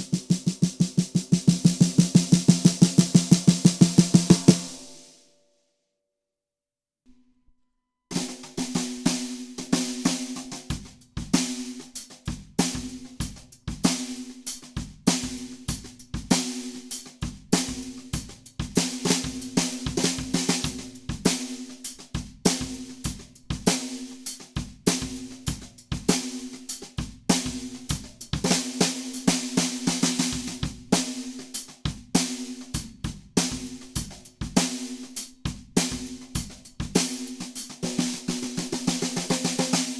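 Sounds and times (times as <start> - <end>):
drum kit groove: 0.0 - 5.2, 8.1 - 39.9
loud snare drum strokes: 0.0 - 5.2, 8.1 - 39.9.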